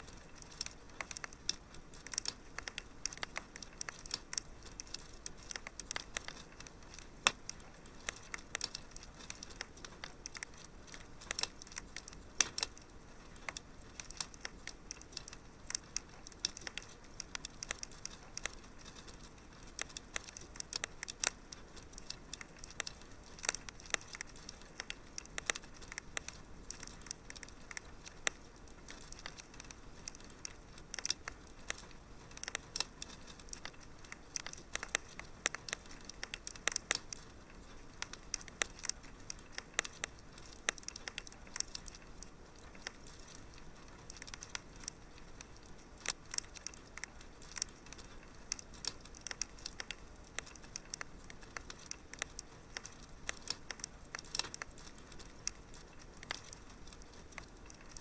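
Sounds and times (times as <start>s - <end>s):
soft hiss: 0.0s - 58.0s
wood fire crackling: 0.0s - 58.0s.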